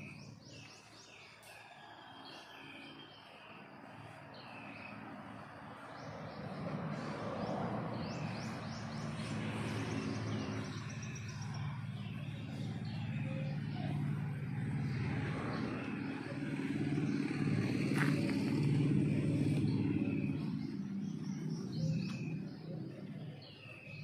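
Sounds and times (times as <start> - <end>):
birds chirping: 0.0 - 24.0
low engine-like hum: 0.0 - 24.0.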